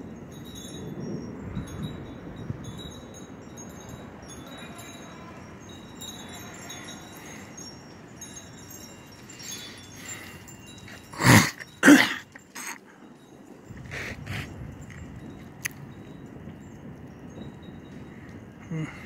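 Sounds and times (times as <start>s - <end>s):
wind chimes tinkling: 0.0s - 19.0s.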